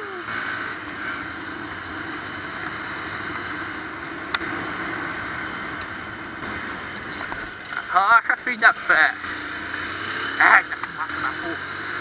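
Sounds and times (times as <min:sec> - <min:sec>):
motorcycle riding through traffic: 0:00.0 - 0:12.0.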